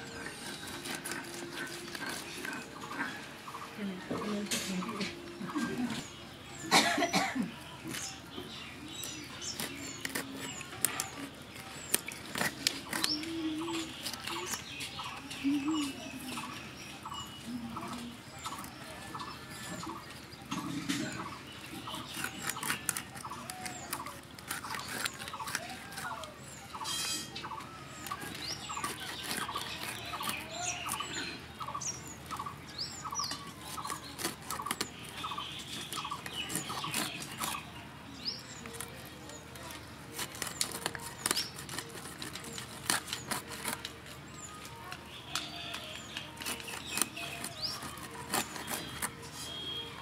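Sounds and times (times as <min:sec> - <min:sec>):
birds calling: 0:00.0 - 0:50.0.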